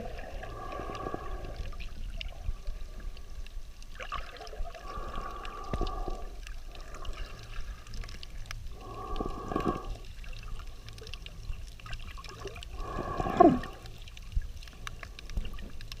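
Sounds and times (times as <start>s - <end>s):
exhaled bubbles underwater: 0.0s - 16.0s
low rumble of water: 0.0s - 16.0s.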